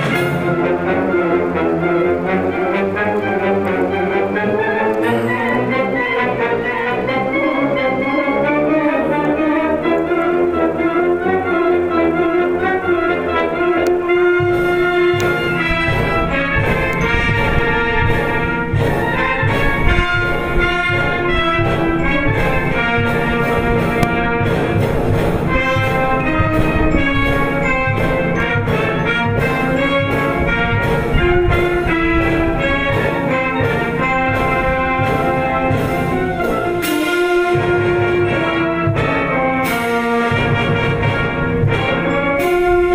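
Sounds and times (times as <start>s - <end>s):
orchestral music with brass: 0.0s - 42.9s.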